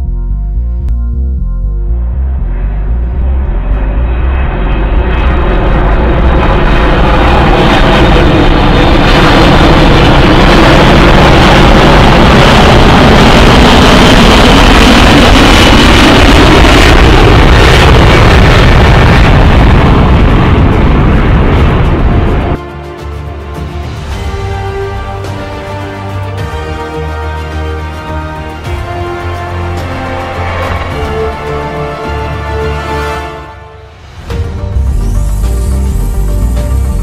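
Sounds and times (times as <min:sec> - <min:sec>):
loud rushing rumbling: 0:00.5 - 0:37.0.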